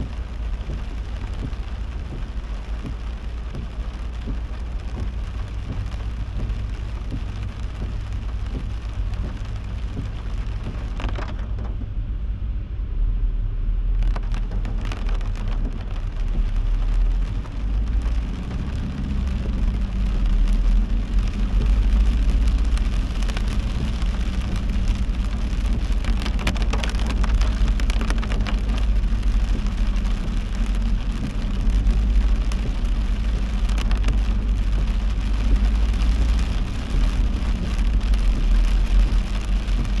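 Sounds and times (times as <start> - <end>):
heavy rain on a car: 0.0 - 12.7, 13.5 - 40.0
car road and engine rumble: 0.0 - 40.0.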